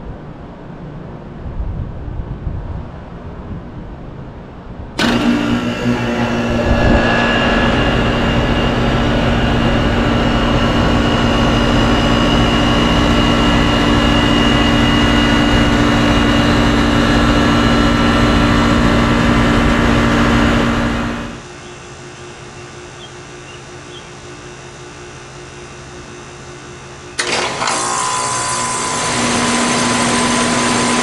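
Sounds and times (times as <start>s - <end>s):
air conditioner compressor hum: 0.0s - 31.0s
condenser fan running: 0.0s - 31.0s.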